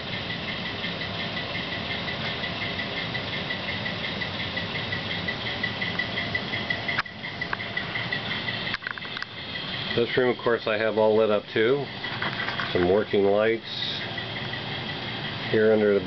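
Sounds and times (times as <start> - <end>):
fast regular high ticking: 0.0 - 16.0
model diesel engine idling hum: 0.0 - 16.0.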